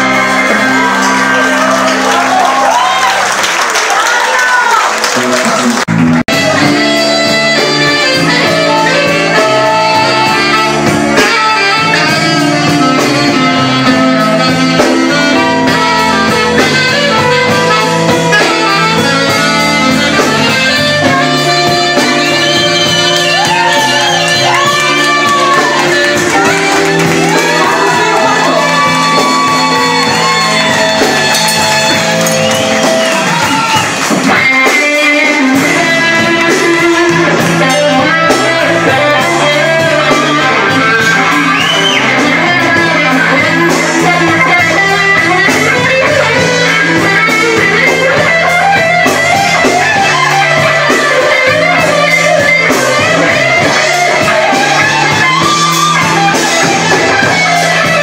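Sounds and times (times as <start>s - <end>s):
electric guitar: 0.0s - 3.3s, 4.3s - 58.0s
live band playing: 0.0s - 58.0s.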